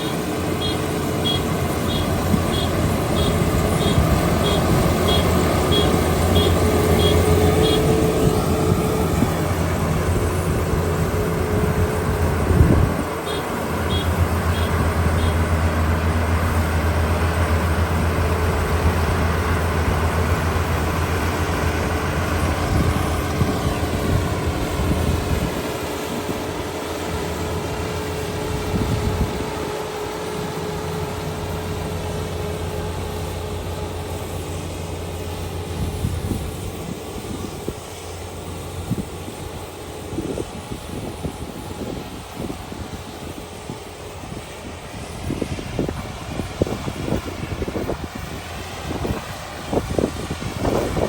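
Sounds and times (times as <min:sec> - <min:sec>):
combine harvester engine droning: 0:00.0 - 0:51.0.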